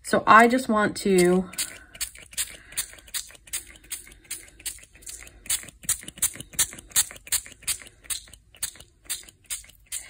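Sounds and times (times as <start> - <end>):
spray bottle hissing squirts: 1.5 - 10.0.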